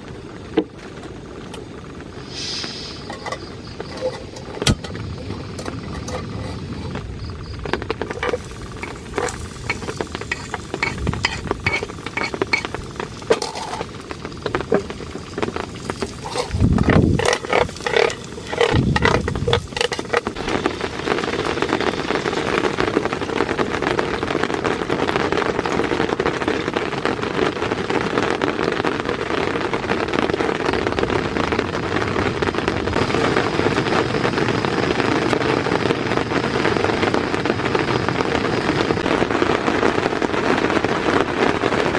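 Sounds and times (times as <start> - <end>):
rain tapping on tent fabric: 0.0 - 41.9.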